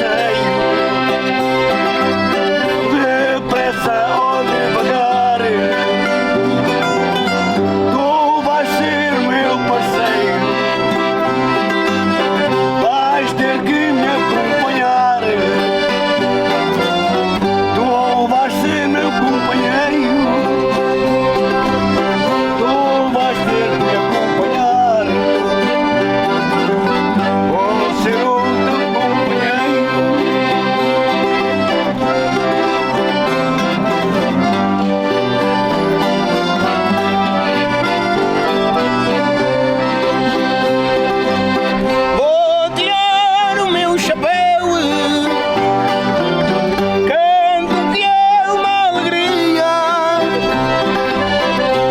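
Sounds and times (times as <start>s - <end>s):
accordion: 0.0s - 51.9s
plucked stringed instruments: 0.0s - 51.9s.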